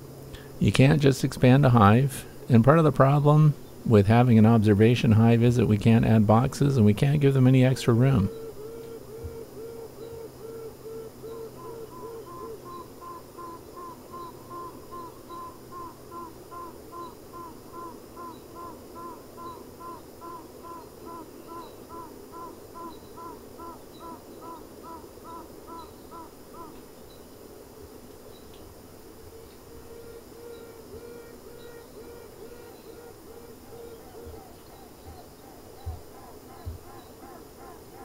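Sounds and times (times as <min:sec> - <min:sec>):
bee queens piping: 0:00.0 - 0:25.0, 0:29.0 - 0:38.0
bee colony hum: 0:00.0 - 0:38.0.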